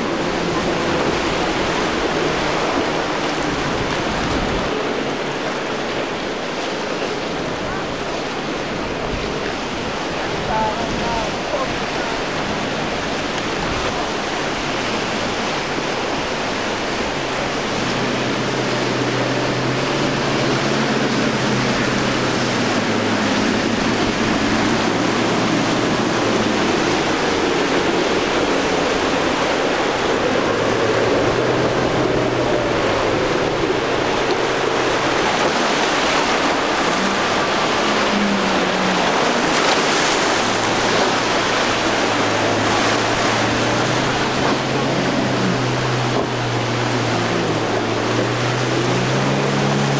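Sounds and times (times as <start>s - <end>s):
outboard boat engines droning: 0.0s - 49.9s
surf and rushing water: 0.0s - 49.9s.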